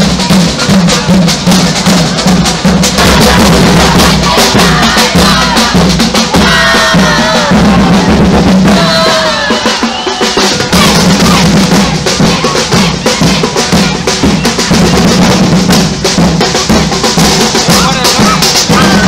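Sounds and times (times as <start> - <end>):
fast drumming: 0.0 - 19.0.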